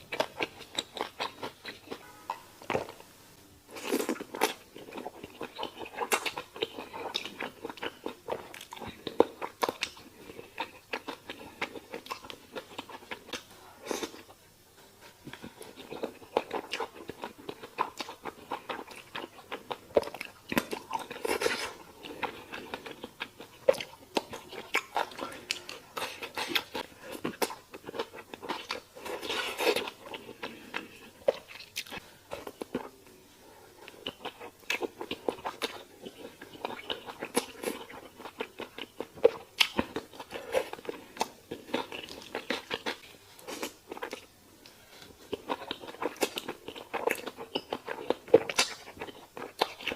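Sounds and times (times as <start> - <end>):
close-miked chewing: 0.0 - 3.0, 3.7 - 14.4, 15.0 - 49.9.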